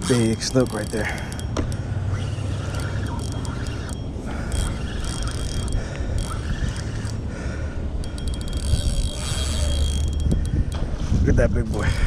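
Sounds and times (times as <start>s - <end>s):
fishing reel clicking and whirring: 0.0s - 12.0s
steady low rumble: 0.0s - 12.0s.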